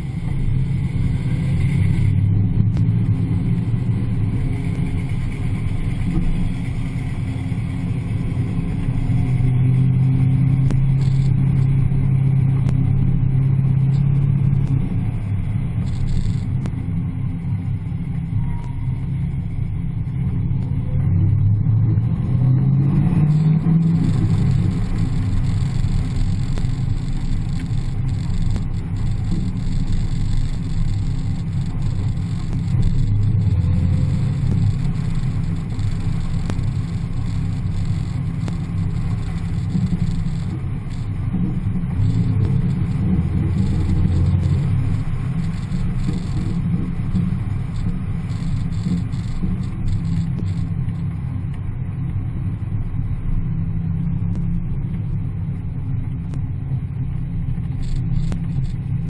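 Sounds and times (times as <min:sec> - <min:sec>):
car engine droning: 0:00.0 - 0:59.0.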